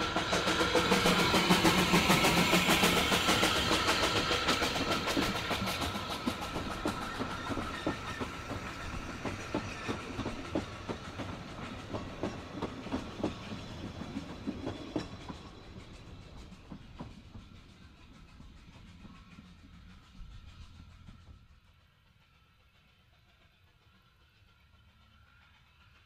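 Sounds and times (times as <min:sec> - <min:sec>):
train wheels clicking over rail joints: 0:00.0 - 0:26.0.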